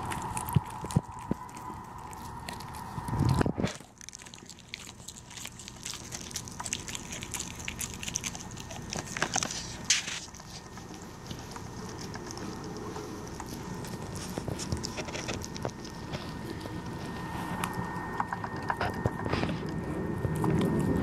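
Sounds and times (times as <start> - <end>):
dog chewing with crunches: 0.0 - 21.0.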